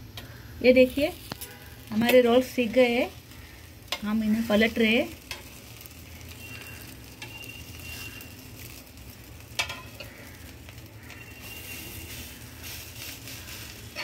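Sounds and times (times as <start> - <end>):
bread sizzling in oil: 0.0 - 14.0.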